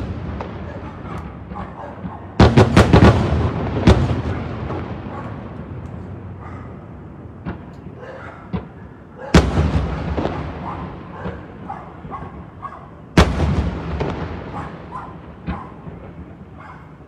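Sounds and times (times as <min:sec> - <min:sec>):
firework shells booming: 0:00.0 - 0:16.6.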